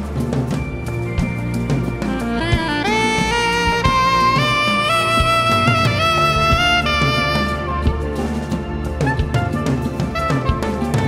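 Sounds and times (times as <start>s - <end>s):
jazz-style melody: 0.0s - 11.0s.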